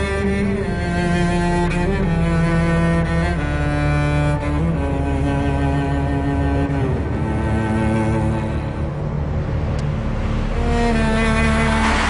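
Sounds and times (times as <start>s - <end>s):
low bowed strings: 0.0s - 12.0s.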